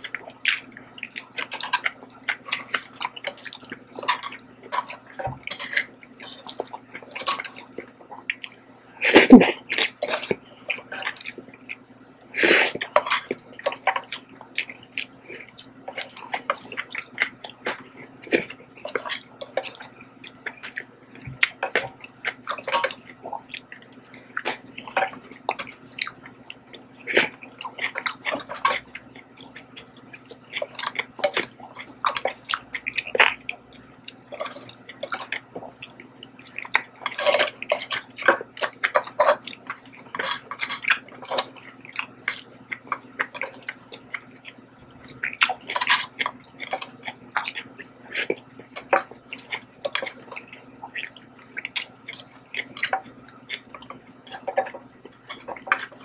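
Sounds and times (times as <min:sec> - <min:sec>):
wet chewing and mouth clicks: 0:00.0 - 0:56.0.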